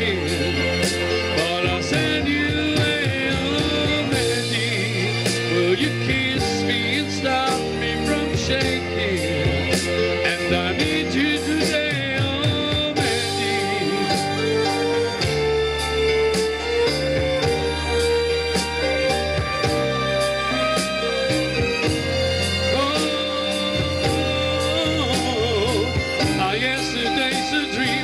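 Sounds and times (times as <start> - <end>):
man singing into a microphone: 0.0 - 15.6, 20.0 - 28.0
rock-pop backing track: 0.0 - 28.0.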